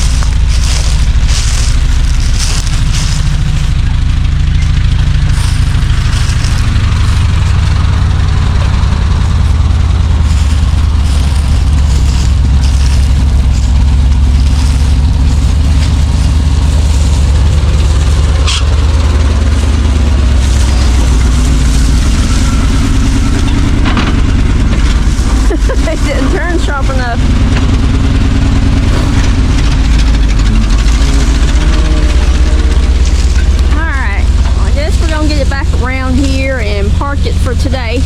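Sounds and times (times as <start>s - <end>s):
truck engine rumbling: 0.0s - 38.0s.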